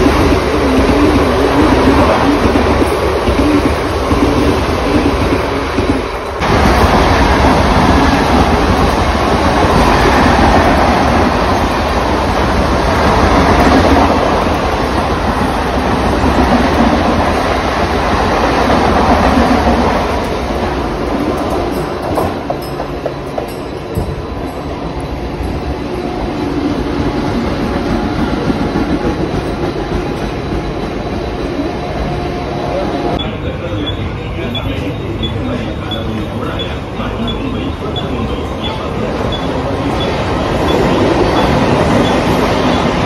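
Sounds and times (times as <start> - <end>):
train wheels on rails: 0.0 - 43.0.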